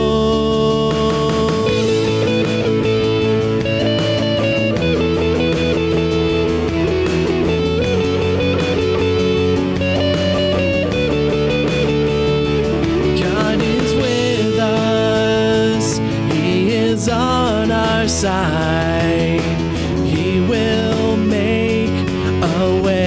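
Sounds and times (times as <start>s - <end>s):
band playing guitars and bass: 0.0s - 23.0s.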